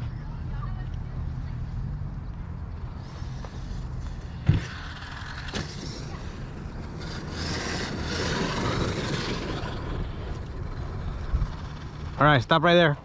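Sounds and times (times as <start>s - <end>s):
rc truck driving over dirt: 0.0s - 13.0s.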